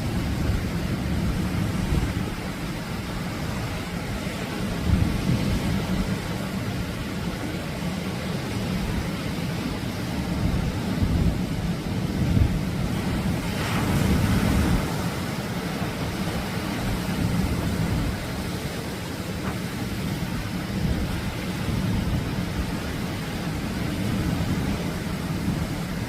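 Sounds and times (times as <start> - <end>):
surf breaking on beach: 0.0 - 26.0
wind rumble on microphone: 0.0 - 26.0.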